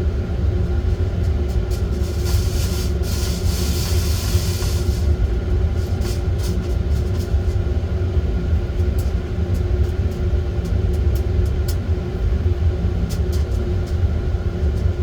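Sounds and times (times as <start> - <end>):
roaster heat source roaring: 0.0 - 15.0
light ticks of roasting beans: 0.6 - 7.7, 8.4 - 15.0.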